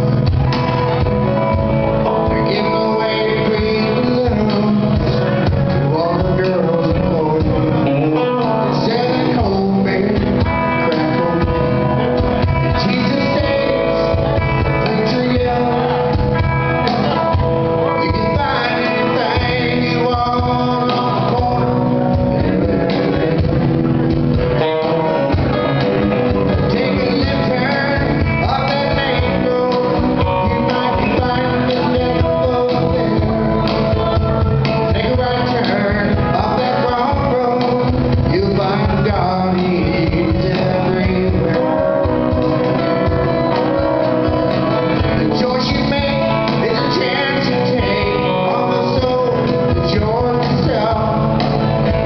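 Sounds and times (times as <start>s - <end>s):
electric bass: 0.0s - 52.0s
man singing: 0.0s - 52.0s.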